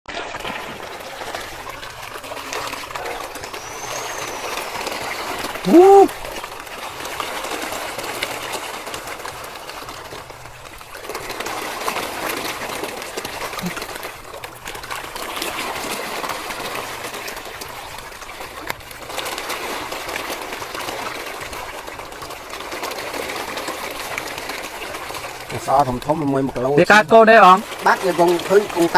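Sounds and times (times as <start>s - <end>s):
fish splashing at water surface: 0.1s - 28.9s.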